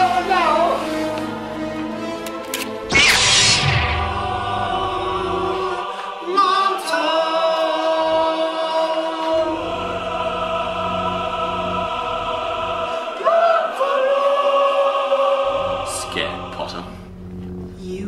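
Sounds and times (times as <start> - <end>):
choir singing held chords: 0.0 - 17.3.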